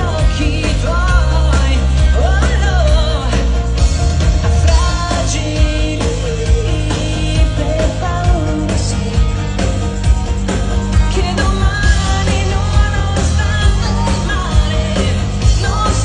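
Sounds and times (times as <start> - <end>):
woman singing: 0.0 - 10.1, 10.8 - 16.0
pop band playing: 0.0 - 16.0.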